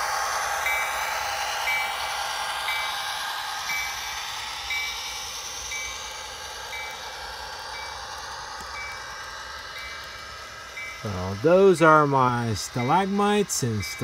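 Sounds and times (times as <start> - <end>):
model train whirring and rattling: 0.0 - 14.0.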